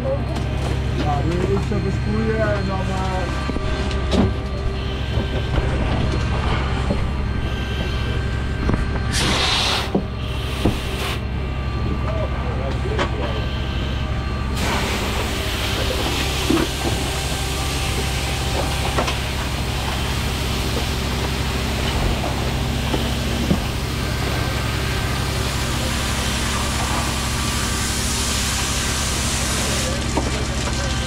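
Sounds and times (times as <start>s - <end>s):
engine droning: 0.0s - 31.0s.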